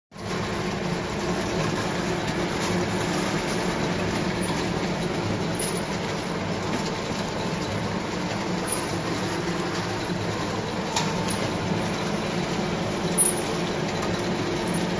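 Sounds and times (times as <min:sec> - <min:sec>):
machine running: 0:00.2 - 0:14.9.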